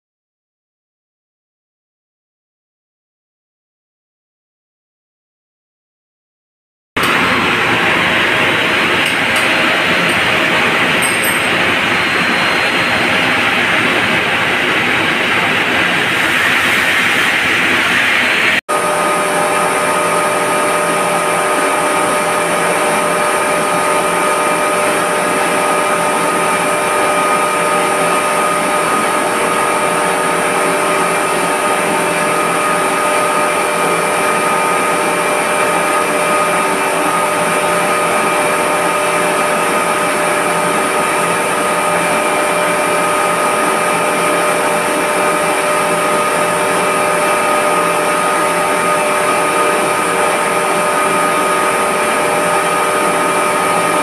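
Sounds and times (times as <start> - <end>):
high-pressure pump humming and whining: 7.0 - 54.0.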